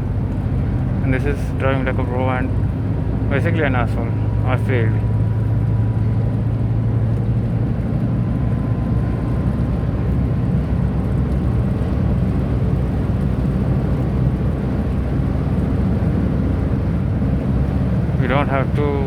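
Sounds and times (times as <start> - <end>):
small car engine hum: 0.0 - 19.0.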